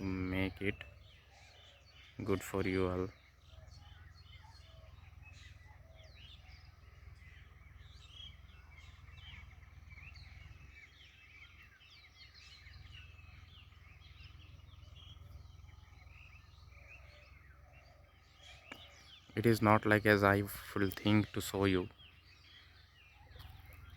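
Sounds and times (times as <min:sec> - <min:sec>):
low steady rumble: 0:00.0 - 0:23.9
many birds chirping: 0:00.0 - 0:23.9.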